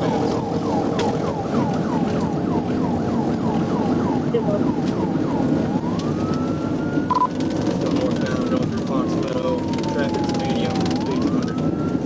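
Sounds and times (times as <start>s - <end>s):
car engine rumble: 0.0s - 12.0s
police siren: 0.0s - 12.0s
road noise: 0.0s - 12.0s.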